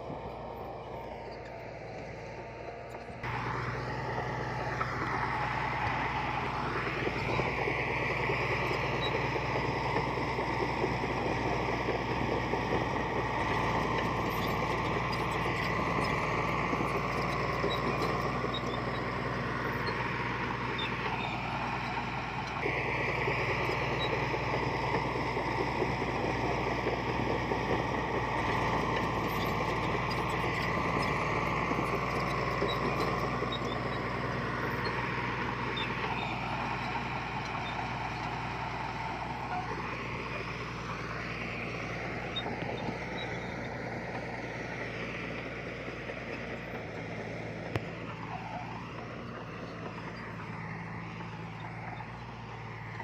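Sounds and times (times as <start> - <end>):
heavy machinery diesel engine: 0.0 - 53.0.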